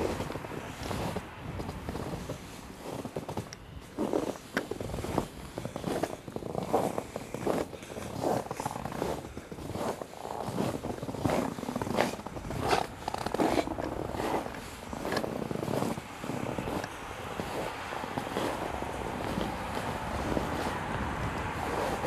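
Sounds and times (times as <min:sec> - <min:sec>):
footsteps walking: 0:00.0 - 0:22.0.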